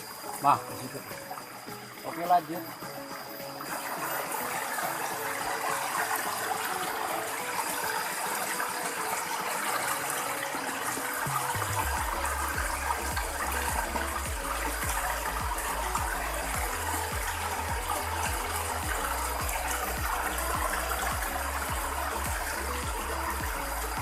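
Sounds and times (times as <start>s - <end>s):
water gushing: 0.0s - 24.0s.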